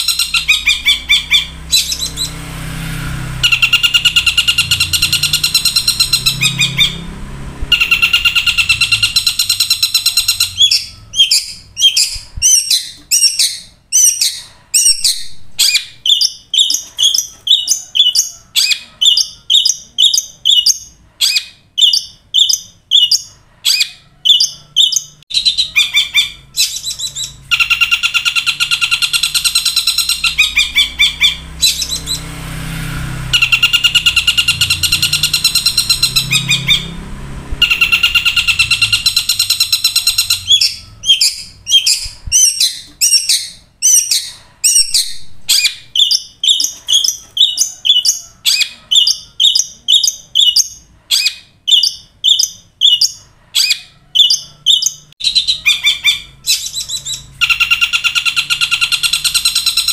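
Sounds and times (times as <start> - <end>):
harsh rattling bird trill: 0.0 - 59.9
sharp repeated bird notes: 0.0 - 59.9.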